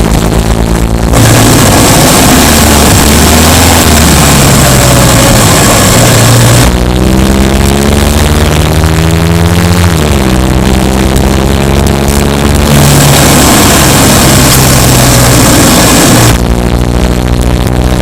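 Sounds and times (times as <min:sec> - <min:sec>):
car engine running under load: 0:00.0 - 0:18.0.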